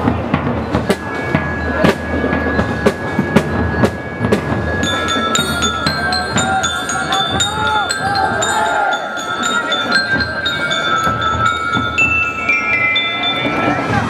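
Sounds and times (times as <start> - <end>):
drums beating a march: 0.0 - 14.0
bell lyres ringing melody: 0.4 - 14.0.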